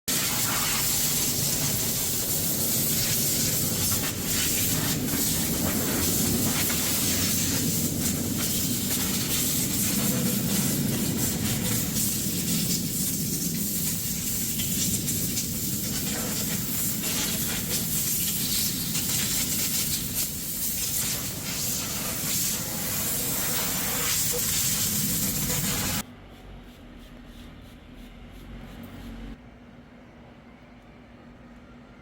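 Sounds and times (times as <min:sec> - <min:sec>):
loud hissing spray: 0:00.1 - 0:26.0.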